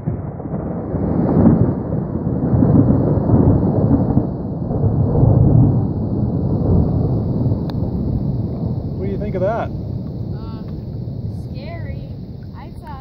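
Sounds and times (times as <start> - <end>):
rolling thunder: 0.0 - 13.0.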